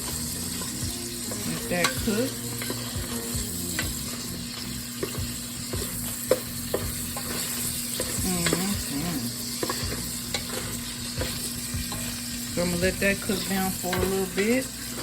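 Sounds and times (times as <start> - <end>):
grease popping: 0.0 - 15.0
sausage and shrimp sizzling: 0.0 - 15.0.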